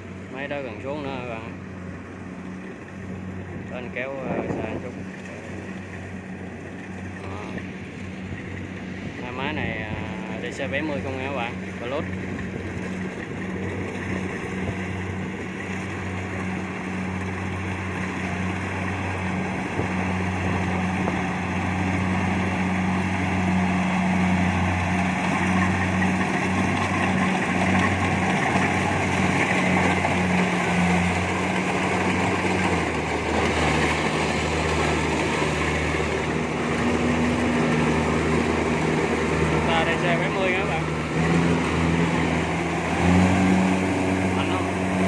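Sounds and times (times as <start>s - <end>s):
diesel engine hum: 0.0s - 45.0s
threshing machinery whirring: 0.0s - 45.0s.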